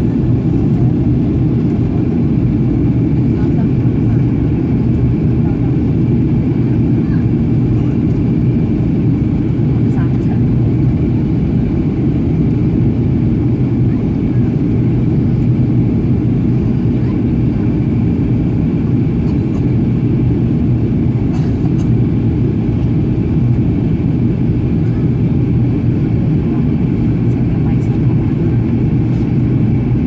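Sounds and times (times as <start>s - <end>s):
aircraft cabin engine drone: 0.0s - 30.0s.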